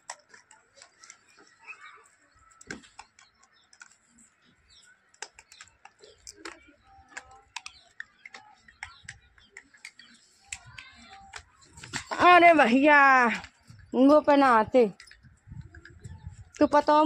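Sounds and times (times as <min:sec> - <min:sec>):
monkeys' light clicks and taps: 0:00.0 - 0:13.8, 0:14.9 - 0:17.0.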